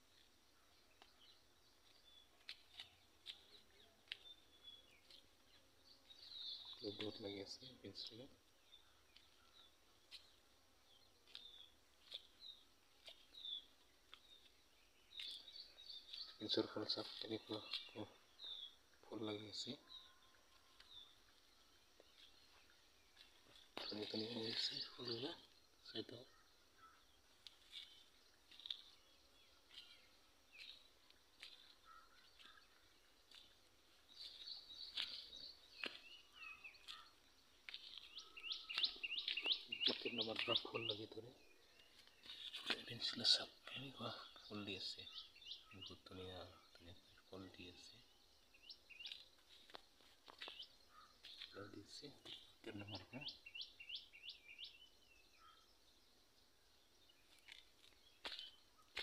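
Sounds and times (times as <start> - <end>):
bird chirps: 0.0 - 59.0.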